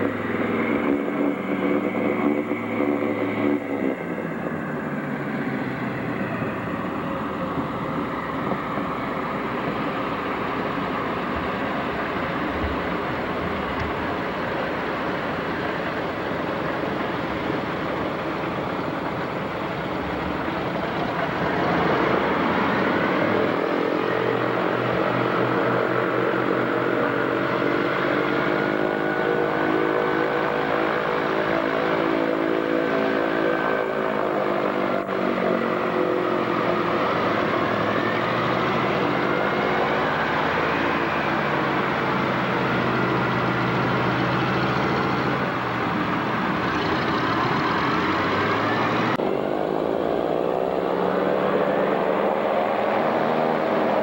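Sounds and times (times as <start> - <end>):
propeller plane engines running: 0.0 - 54.0.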